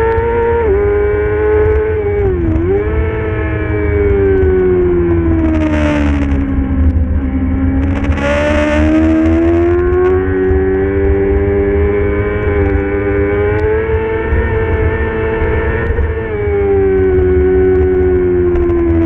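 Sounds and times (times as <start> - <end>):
motorcycle engine revving high: 0.0 - 19.0
wind noise: 0.0 - 19.0.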